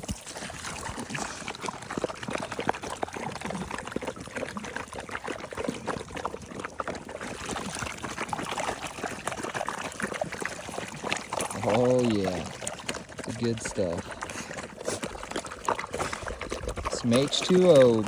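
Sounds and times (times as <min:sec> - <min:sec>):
small water splashes: 0:00.0 - 0:18.0
water pouring and trickling: 0:00.0 - 0:18.0.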